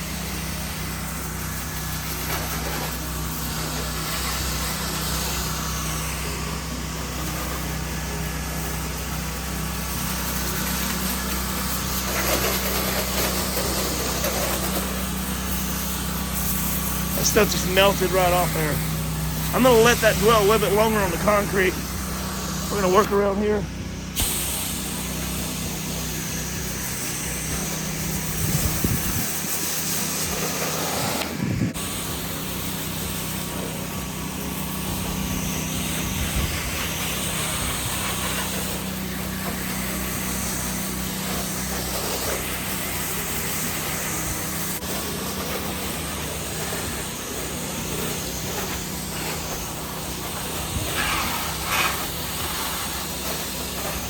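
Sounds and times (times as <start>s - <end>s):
gas engine running: 0.0s - 54.0s
water spray hiss: 0.0s - 54.0s.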